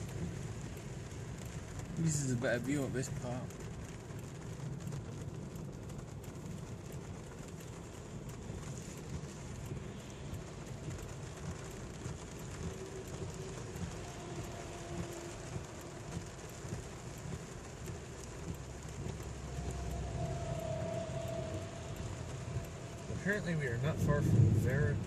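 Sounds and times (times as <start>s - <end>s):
heavy rain on a car roof: 0.0s - 25.0s.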